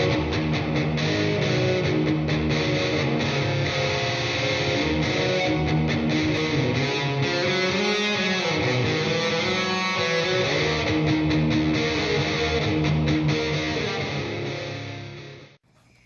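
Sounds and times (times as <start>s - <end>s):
electric guitar strumming chords: 0.0s - 15.6s.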